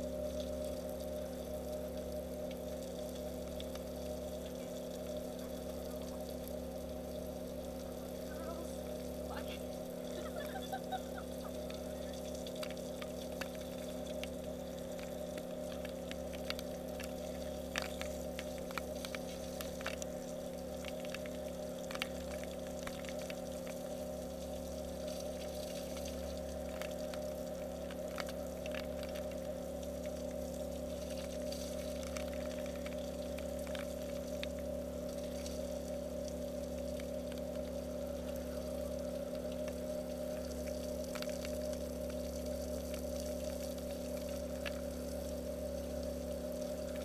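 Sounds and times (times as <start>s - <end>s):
shower water spraying: 0.0s - 37.1s, 38.9s - 47.0s
droplets ticking on camera: 0.0s - 47.0s
steady hum: 0.0s - 47.0s.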